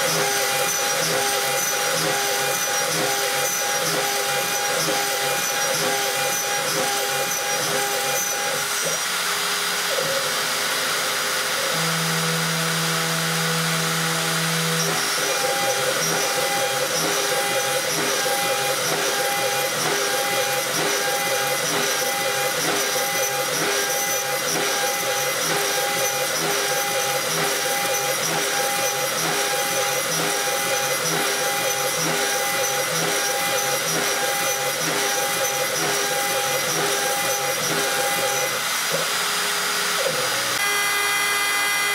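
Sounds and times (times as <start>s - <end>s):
end mill cutting aluminium: 0.0s - 41.9s
router spindle whining: 0.0s - 41.9s.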